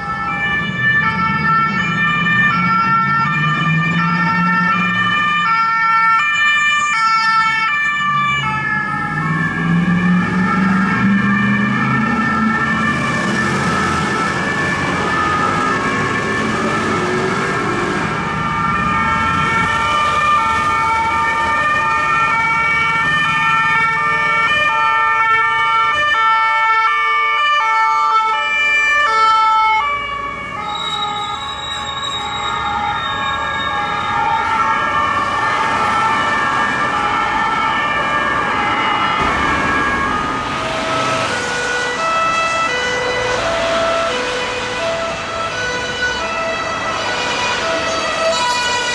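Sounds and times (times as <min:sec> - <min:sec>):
city traffic: 0:00.0 - 0:48.9
police sirens two-tone: 0:00.0 - 0:48.9.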